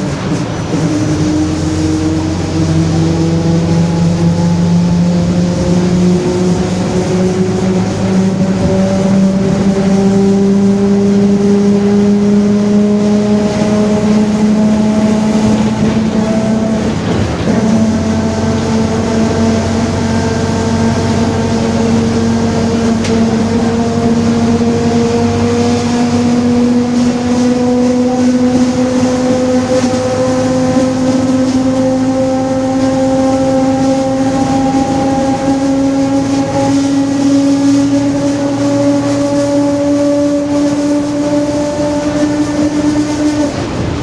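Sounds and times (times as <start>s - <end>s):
bus differential gear whine: 0.0s - 44.0s
bus running: 0.0s - 44.0s.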